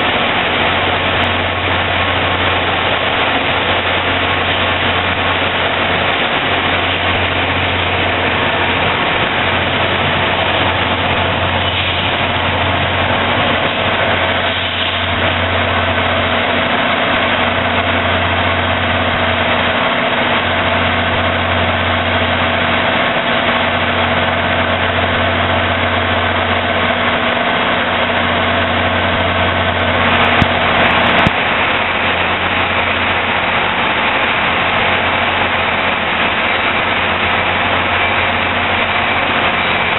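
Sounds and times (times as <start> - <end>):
diesel locomotives idling: 0.0 - 39.9.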